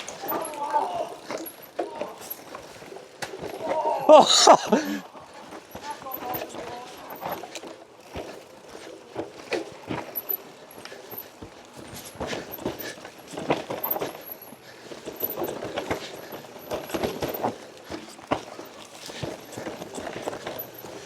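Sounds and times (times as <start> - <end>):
bike clattering over rocks: 0.0 - 21.0
rolling tyre noise: 0.0 - 21.0.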